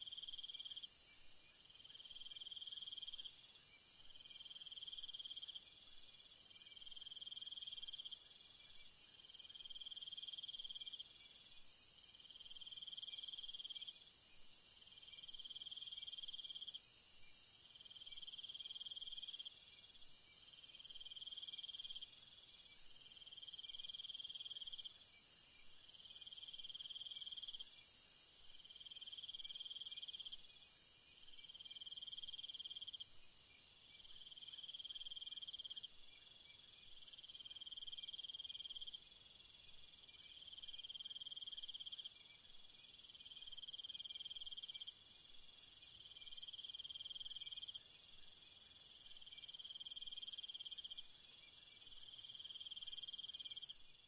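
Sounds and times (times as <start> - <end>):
crickets chirping: 0.0 - 54.0
low insect trill: 0.0 - 54.0.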